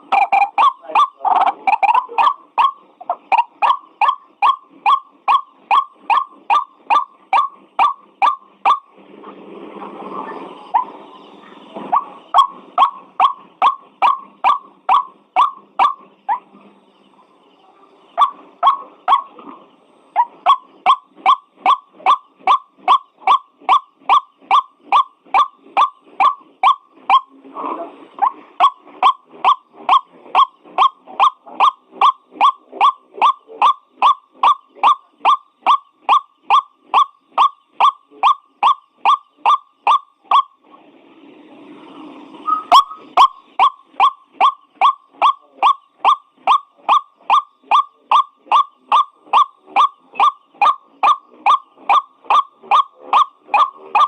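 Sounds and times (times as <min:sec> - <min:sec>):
waterhen calling: 0:00.0 - 0:08.9, 0:11.9 - 0:16.5, 0:18.1 - 0:27.3, 0:28.2 - 0:40.6, 0:42.4 - 0:54.0.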